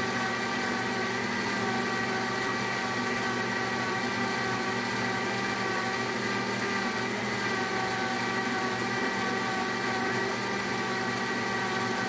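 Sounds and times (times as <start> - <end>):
blender motor whine: 0.0 - 12.0.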